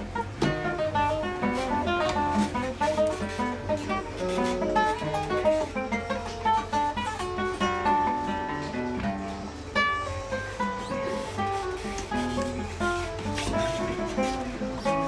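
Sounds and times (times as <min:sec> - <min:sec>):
classical guitar solo: 0:00.0 - 0:15.0.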